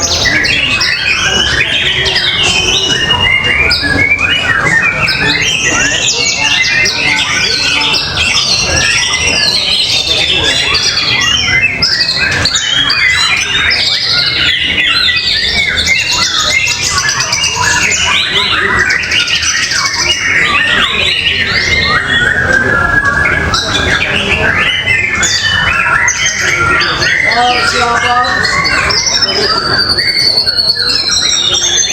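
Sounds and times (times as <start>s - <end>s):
songbirds singing: 0.0s - 31.9s.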